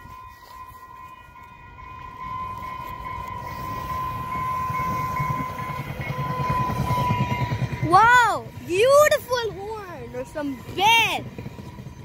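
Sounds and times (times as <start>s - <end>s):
crossing signal ringing tone: 0.0s - 12.0s
train rumble: 0.0s - 12.0s.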